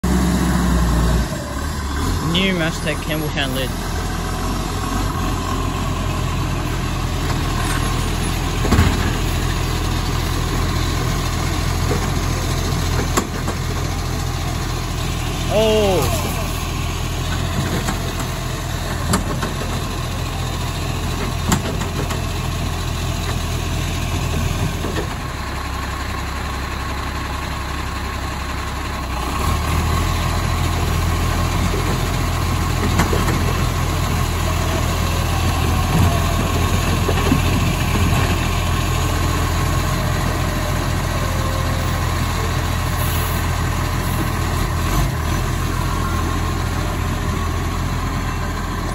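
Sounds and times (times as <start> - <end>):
garbage truck diesel engine: 0.0 - 48.9.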